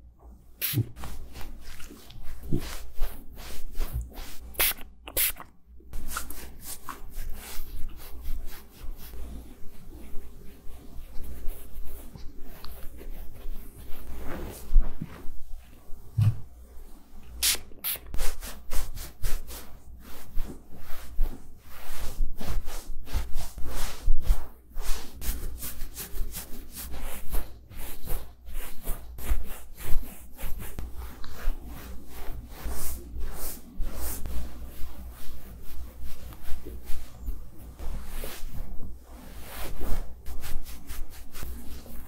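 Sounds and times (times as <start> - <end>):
glove rubbing through dog fur: 6.0 - 16.5, 18.1 - 42.0.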